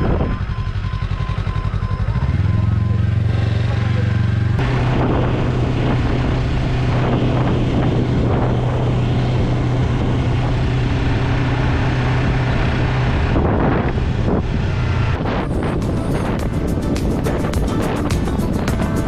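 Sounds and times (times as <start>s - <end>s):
wind noise on microphone: 0.0s - 1.2s, 4.4s - 19.0s
motorcycle engine cruising: 0.0s - 19.0s.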